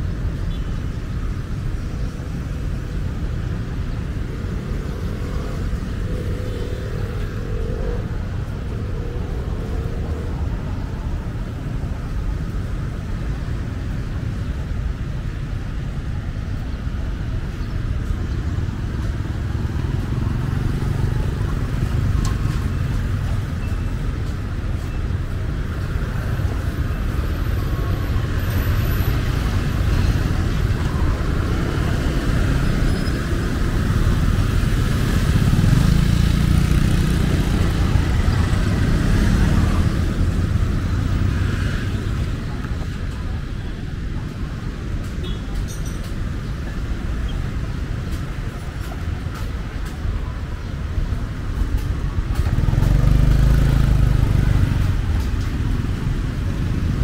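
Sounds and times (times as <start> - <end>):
cars and motorbikes passing: 0.0 - 57.0
low traffic rumble: 0.0 - 57.0.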